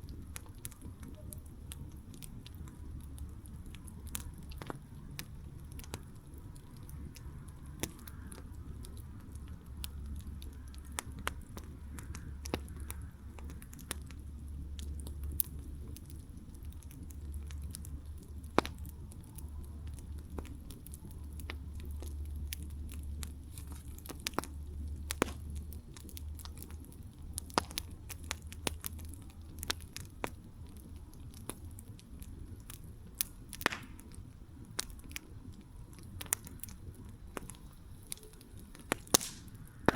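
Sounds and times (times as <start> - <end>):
campfire crackling and popping: 0.0 - 39.9
low steady rumble: 0.0 - 39.9.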